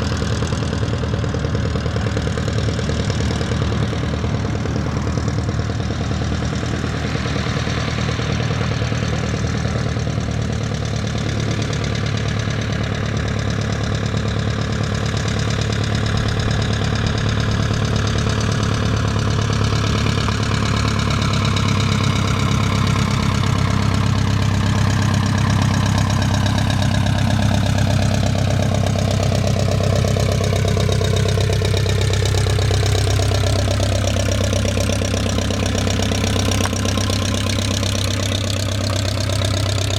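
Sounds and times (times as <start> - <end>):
small plane engine running: 0.0 - 39.9.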